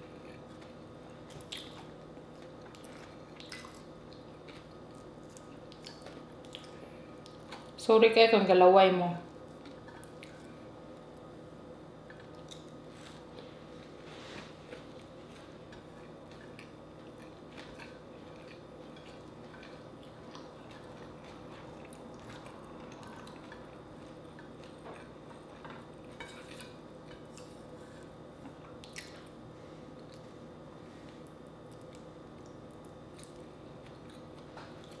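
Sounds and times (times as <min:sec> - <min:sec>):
steady low hum: 0:00.0 - 0:35.0
person chewing: 0:00.1 - 0:07.8, 0:09.4 - 0:11.3, 0:12.0 - 0:35.0.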